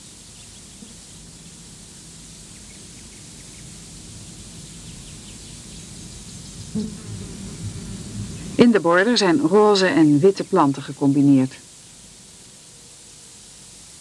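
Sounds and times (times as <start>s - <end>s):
small birds chirping: 0.0s - 11.4s
tape hiss and hum: 0.0s - 14.0s.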